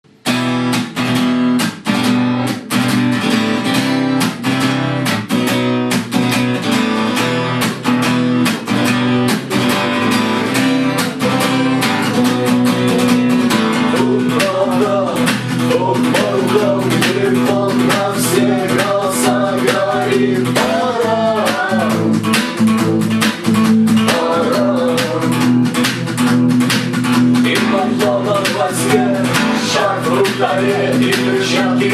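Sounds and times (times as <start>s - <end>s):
strummed guitar: 0.1s - 31.9s
bass line: 6.2s - 31.9s.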